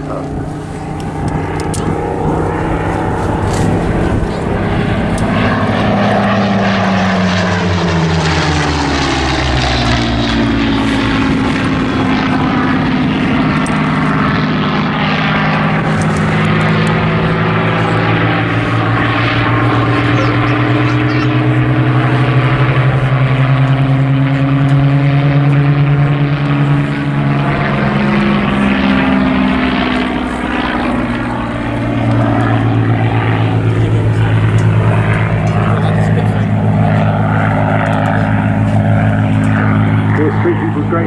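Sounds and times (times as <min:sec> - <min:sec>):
aircraft engines droning past: 0:00.0 - 0:41.0.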